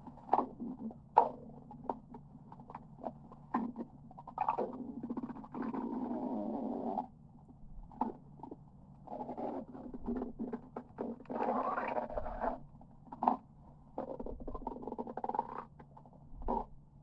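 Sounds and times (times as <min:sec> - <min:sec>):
stomach growling: 0:00.0 - 0:16.8.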